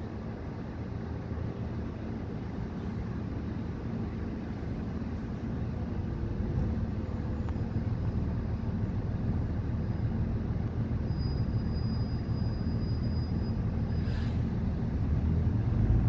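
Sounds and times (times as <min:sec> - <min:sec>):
faint high whine: 0:00.0 - 0:15.7
bus engine running: 0:00.0 - 0:16.0.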